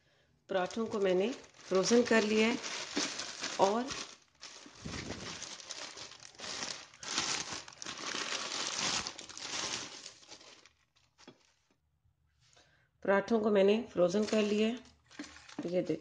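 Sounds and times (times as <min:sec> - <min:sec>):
plastic bag crinkling: 0:00.6 - 0:11.7, 0:14.0 - 0:16.0.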